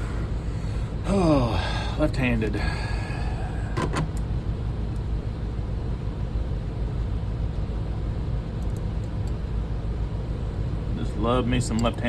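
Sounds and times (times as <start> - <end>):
low machine motor hum: 0.0 - 12.0.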